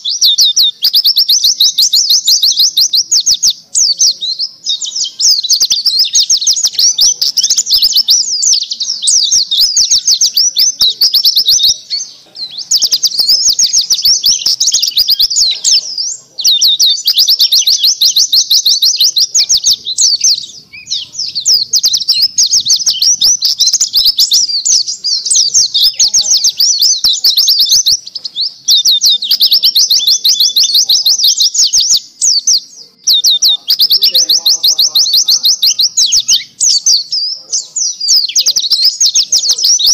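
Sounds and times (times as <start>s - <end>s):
bird warbling song with trills: 0.0s - 39.9s.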